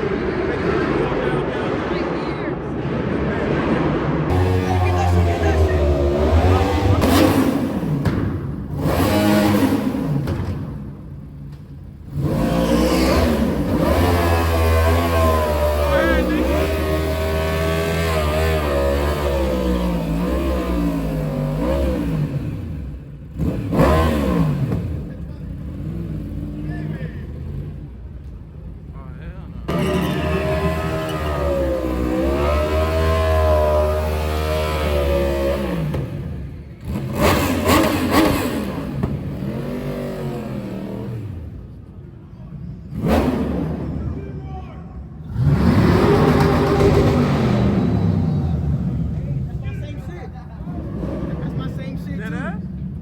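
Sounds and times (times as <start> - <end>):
car engine revving: 0.0 - 41.9, 42.9 - 44.1, 45.2 - 53.0.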